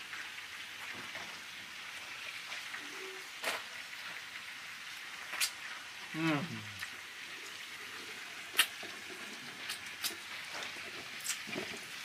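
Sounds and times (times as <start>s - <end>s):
seafood frying hiss: 0.0s - 12.0s.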